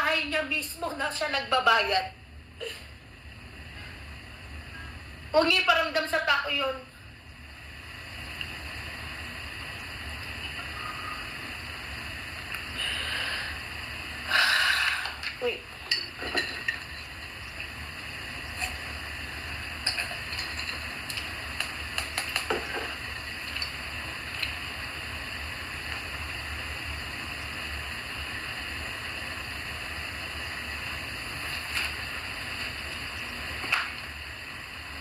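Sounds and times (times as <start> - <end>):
room hiss and hum: 0.0 - 35.0.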